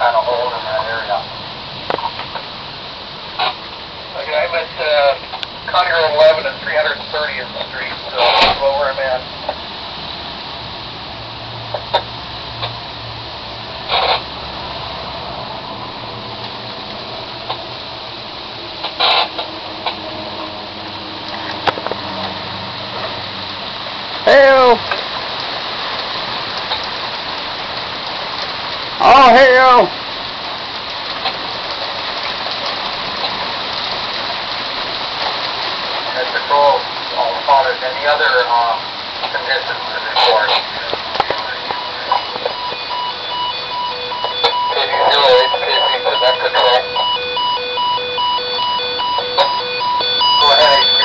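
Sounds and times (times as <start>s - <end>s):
radio static hiss: 0.0s - 11.0s, 11.6s - 14.6s, 16.0s - 20.3s, 21.4s - 27.7s, 29.0s - 29.9s, 35.0s - 51.0s
raindrop ticks: 0.0s - 14.6s, 16.0s - 51.0s
heavy rain falling: 0.0s - 51.0s
static crackles: 0.0s - 51.0s.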